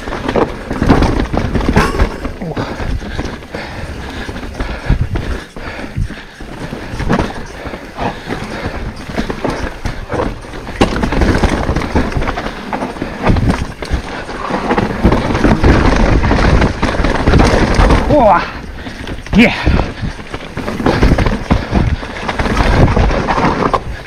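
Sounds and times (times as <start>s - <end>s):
bike knocking and rattling: 0.0s - 24.0s
tyres crunching over rock: 0.0s - 24.0s.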